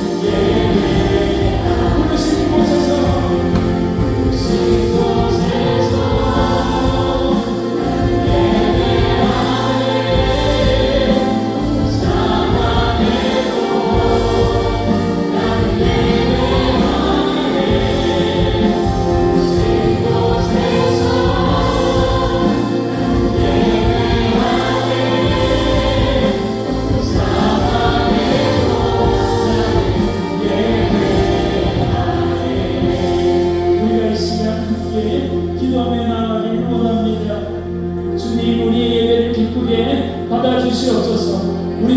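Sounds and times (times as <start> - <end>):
praise band playing: 0.0 - 41.9
voices singing together: 0.0 - 41.9.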